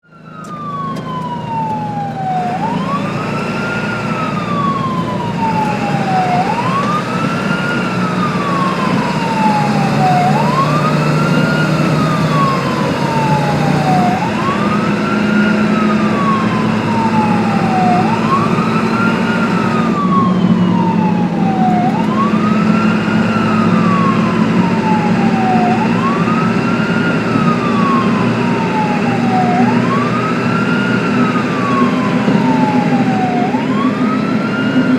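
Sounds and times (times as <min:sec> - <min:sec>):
ambulance siren wailing: 0:00.0 - 0:34.9
vehicle engine drone: 0:00.0 - 0:34.9.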